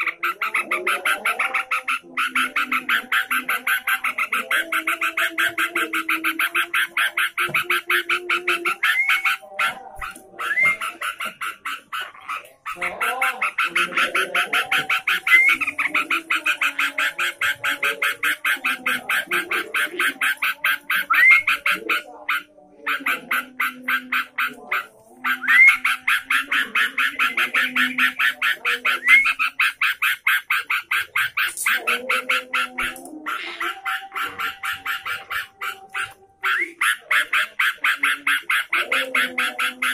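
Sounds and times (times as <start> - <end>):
bird song rattle: 0.0 - 39.9.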